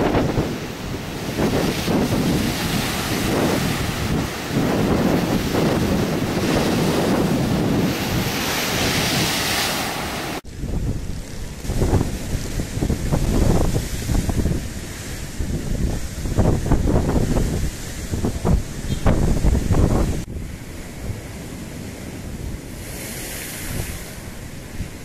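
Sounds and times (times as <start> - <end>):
storm waves breaking: 0.0 - 25.0
wind buffeting microphone: 0.0 - 25.0.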